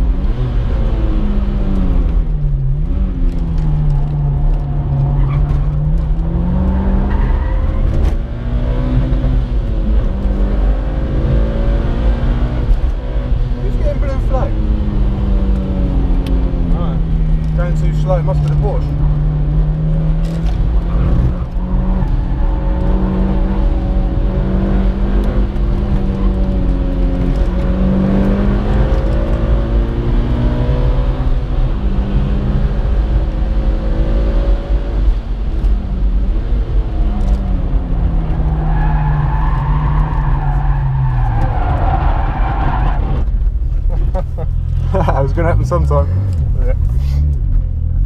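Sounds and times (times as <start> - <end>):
turbocharged car engine: 0.0 - 48.0.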